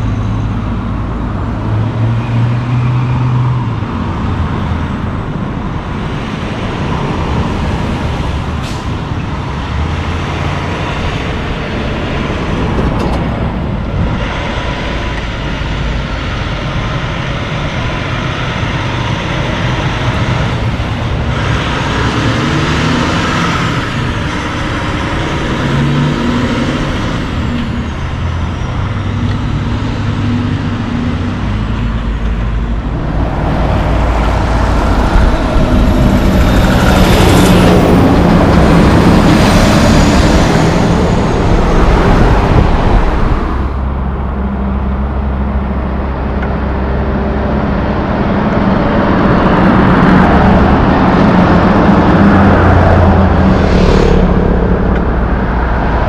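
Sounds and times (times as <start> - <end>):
road and traffic noise: 0.0 - 56.0
truck diesel engine passing: 0.0 - 56.0.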